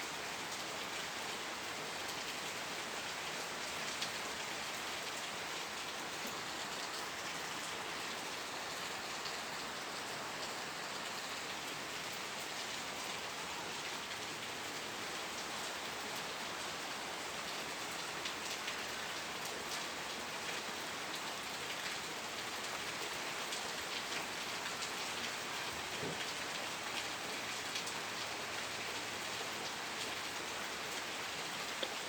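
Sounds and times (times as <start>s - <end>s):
rain pattering on a surface: 0.0s - 32.0s.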